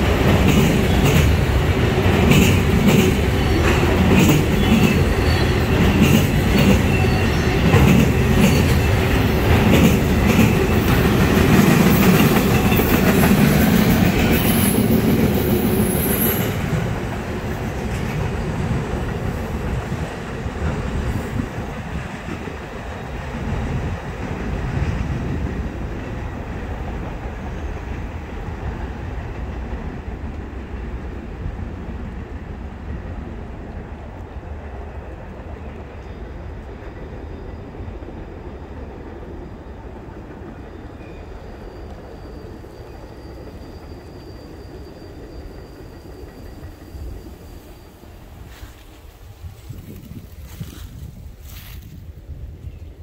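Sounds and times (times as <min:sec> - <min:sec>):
freight train rumbling on rails: 0:00.0 - 0:53.0.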